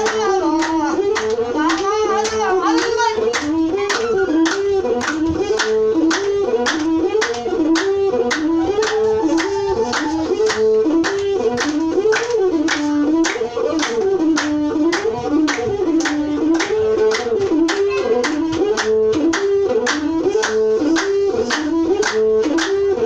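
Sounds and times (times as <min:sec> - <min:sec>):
steady beat of sharp strikes: 0:00.0 - 0:22.9
bowed fiddle melody: 0:00.0 - 0:23.0.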